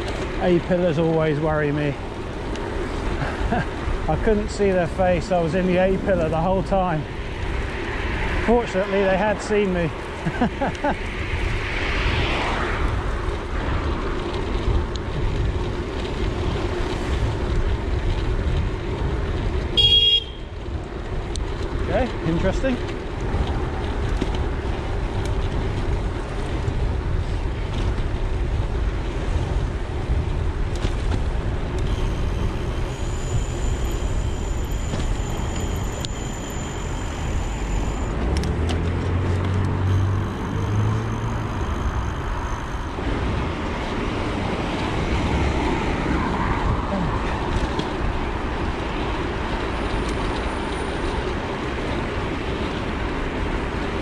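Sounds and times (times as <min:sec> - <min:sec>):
passing car traffic: 0:00.0 - 0:54.0
wind and road rumble: 0:00.0 - 0:54.0.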